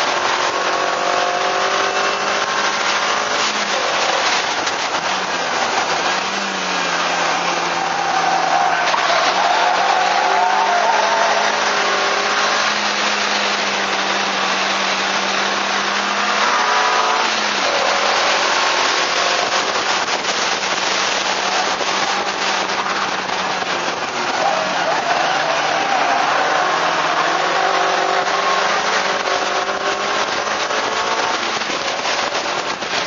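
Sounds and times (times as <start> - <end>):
car engine under load: 0.0 - 33.0
road noise: 0.0 - 33.0.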